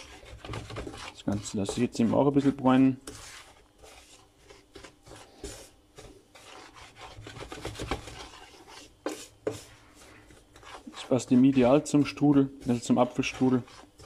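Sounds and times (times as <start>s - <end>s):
wooden spoon scraping frying pan: 0.0s - 14.0s.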